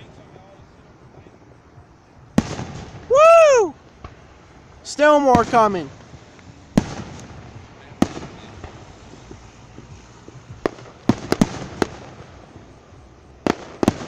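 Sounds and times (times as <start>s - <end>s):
fireworks bursting with bangs: 0.0s - 14.0s.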